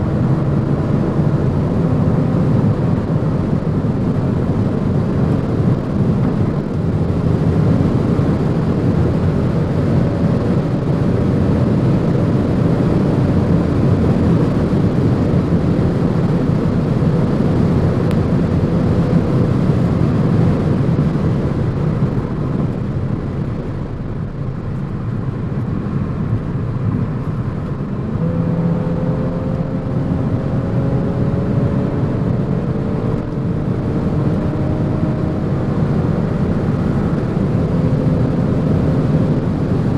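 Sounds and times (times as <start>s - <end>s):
car engine hum: 0.0s - 39.9s
road and wind noise: 0.0s - 39.9s.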